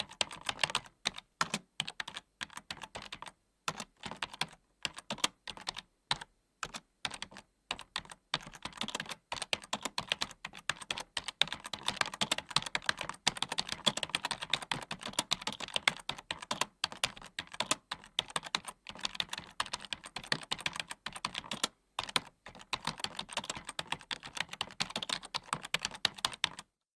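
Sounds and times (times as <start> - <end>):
computer keyboard typing: 0.0 - 26.8.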